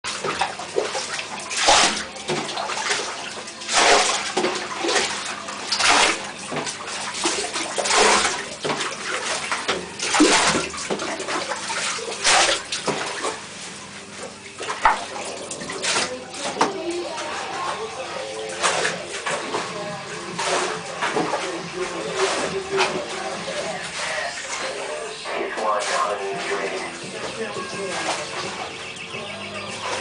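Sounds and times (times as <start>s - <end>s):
floodwater sloshing and splashing: 0.1s - 30.0s
running water rushing: 0.1s - 30.0s.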